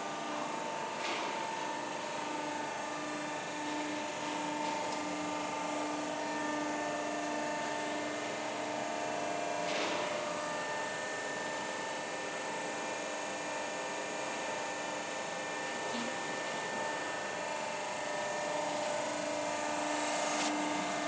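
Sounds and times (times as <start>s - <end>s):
hydraulic pump motor hum and whine: 0.0s - 21.0s.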